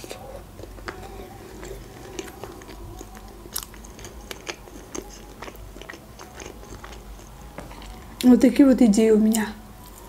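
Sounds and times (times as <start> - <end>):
chewing with wet mouth clicks: 0.0 - 8.3.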